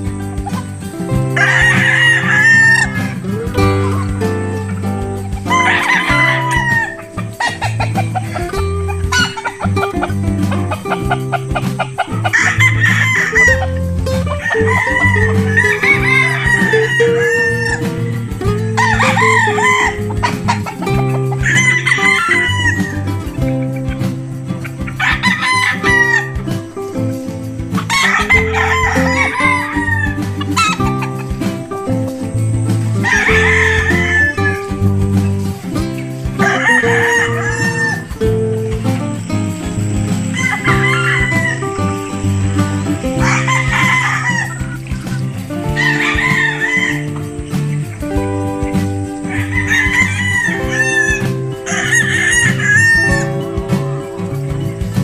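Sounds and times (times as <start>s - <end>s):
music with low bass line: 0.0s - 55.0s
roosters crowing and clucking: 0.0s - 55.0s.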